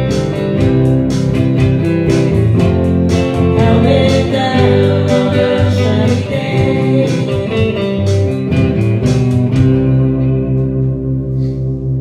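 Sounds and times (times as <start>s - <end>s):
band with electric guitar: 0.0s - 12.0s.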